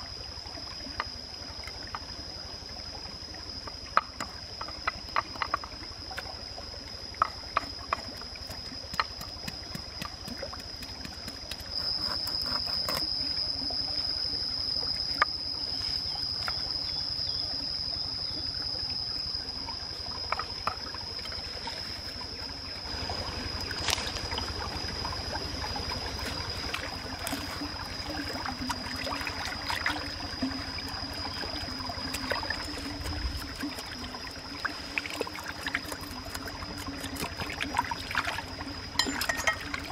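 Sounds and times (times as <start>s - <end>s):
high-pitched insect drone: 0.0s - 39.9s
stream trickling over rocks: 0.0s - 39.9s.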